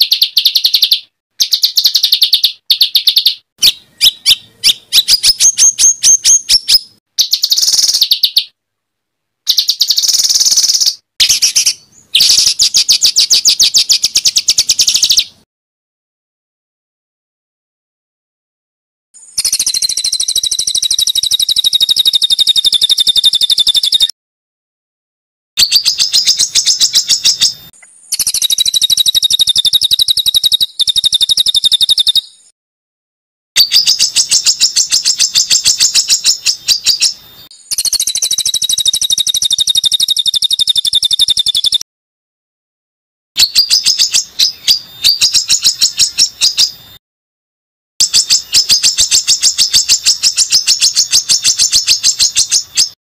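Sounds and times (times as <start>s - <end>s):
songbird trilling: 0.0s - 8.6s, 9.5s - 15.4s, 19.2s - 24.1s, 25.6s - 32.5s, 33.6s - 41.8s, 43.4s - 47.0s, 48.0s - 53.0s.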